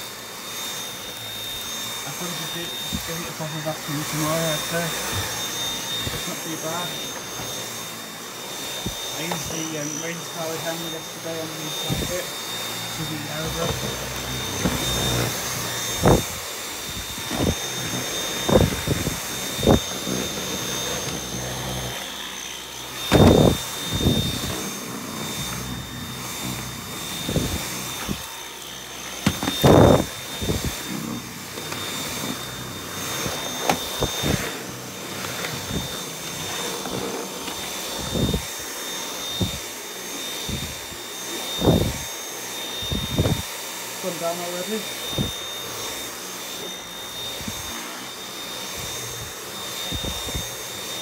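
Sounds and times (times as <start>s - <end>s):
vacuum cleaner motor whine: 0.0s - 51.0s
vacuum wand bumping surfaces: 0.4s - 42.0s.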